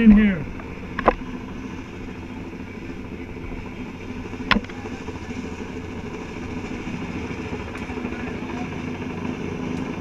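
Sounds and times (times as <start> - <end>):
helicopter rotor droning: 0.0 - 10.0.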